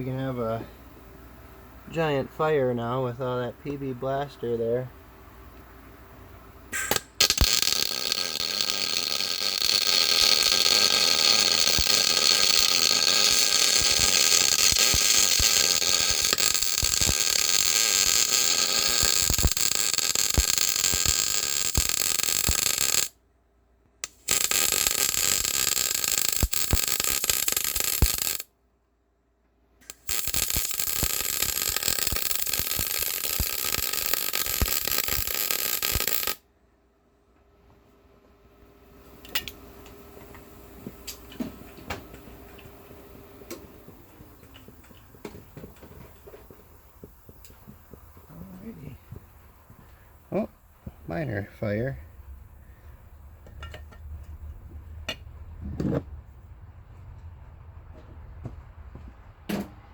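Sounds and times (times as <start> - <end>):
welder arc crackling and hissing: 0.0 - 4.9, 6.6 - 23.1, 24.0 - 28.5, 29.8 - 36.4, 38.9 - 56.1.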